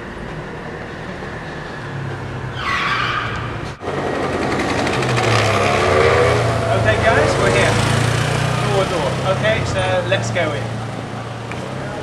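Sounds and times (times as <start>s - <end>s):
scooter engine humming: 0.0s - 12.0s.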